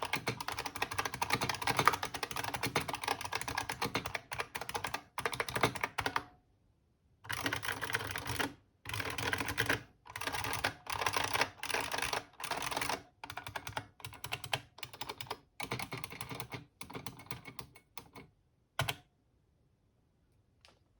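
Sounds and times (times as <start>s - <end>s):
mechanical keyboard typing: 0.0s - 6.3s, 7.3s - 19.0s.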